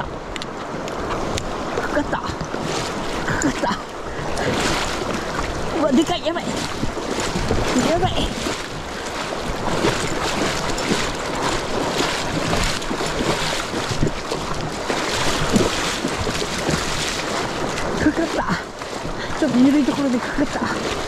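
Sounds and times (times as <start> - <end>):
water rushing through river rapid: 0.0 - 21.0.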